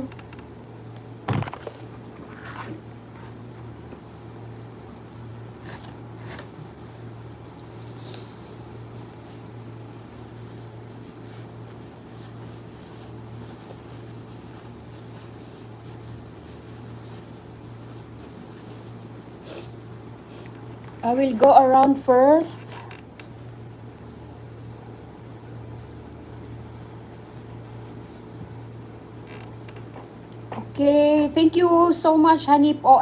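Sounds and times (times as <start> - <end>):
faint room noise: 0.0 - 33.0
steady low hum: 0.0 - 33.0.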